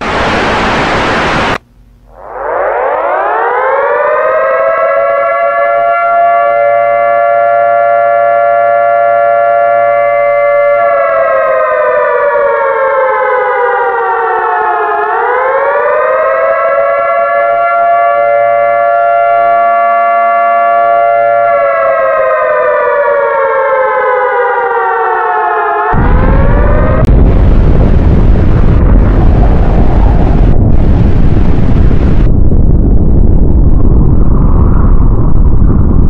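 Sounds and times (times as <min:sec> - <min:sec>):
civil defense siren: 0:02.1 - 0:32.4.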